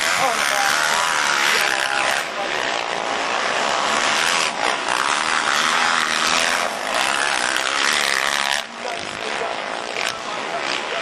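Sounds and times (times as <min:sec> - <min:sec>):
motocross bike engines racing: 0:00.0 - 0:11.0.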